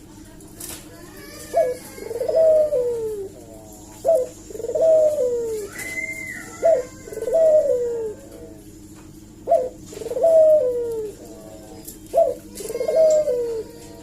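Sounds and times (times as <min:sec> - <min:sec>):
dove cooing: 0:01.2 - 0:14.0.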